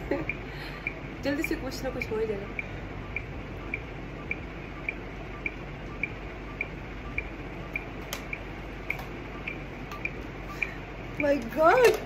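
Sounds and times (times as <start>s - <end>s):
steady ticking: 0.0s - 12.0s.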